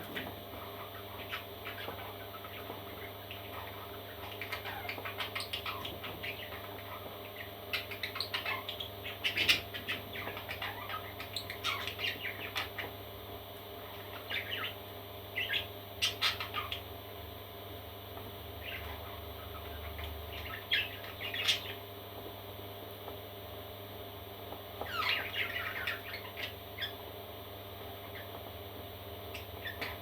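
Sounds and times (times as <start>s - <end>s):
parrot chicks chirping and squawking: 0.0s - 23.2s, 24.0s - 30.0s
steady low hum: 0.0s - 30.0s.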